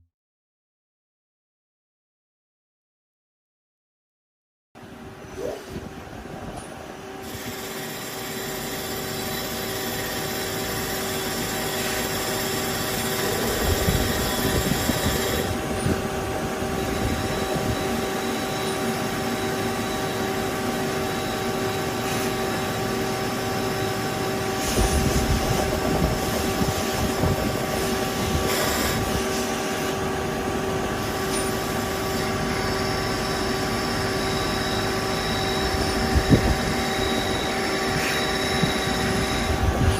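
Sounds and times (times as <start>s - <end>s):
lathe machine hum and whine: 5.0s - 39.9s.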